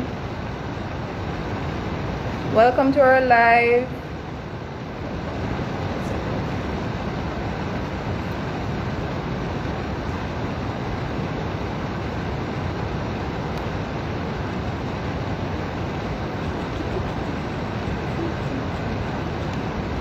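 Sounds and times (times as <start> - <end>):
loud hiss with low rumble: 0.0 - 20.0.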